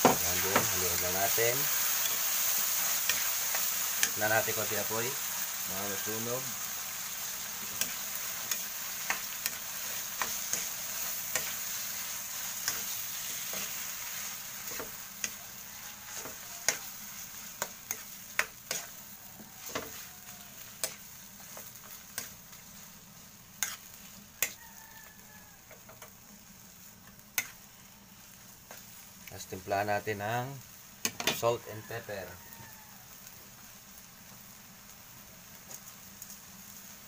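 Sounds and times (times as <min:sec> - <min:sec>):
steady sizzle: 0:00.0 - 0:37.0.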